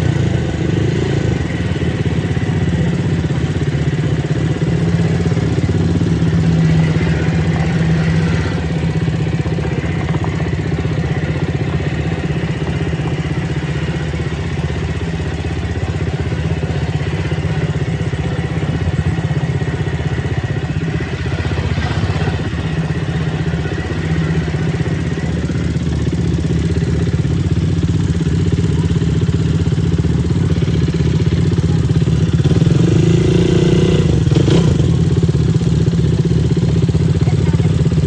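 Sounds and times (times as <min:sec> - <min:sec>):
quad bike engine running: 0:00.0 - 0:38.0.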